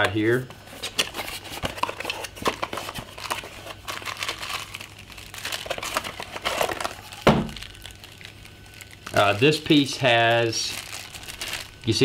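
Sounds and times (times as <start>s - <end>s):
cardboard box crinkling and rustling: 0.6s - 12.0s.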